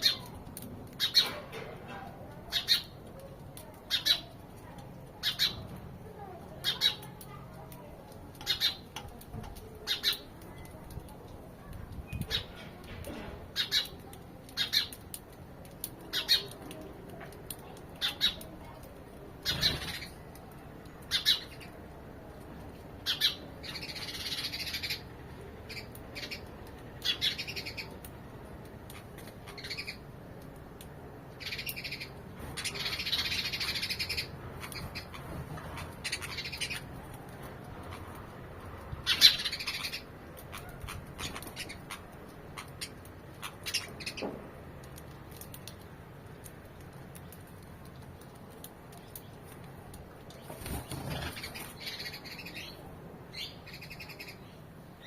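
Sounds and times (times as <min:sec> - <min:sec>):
sparrows chirping: 0:00.0 - 0:46.0, 0:46.6 - 0:55.0.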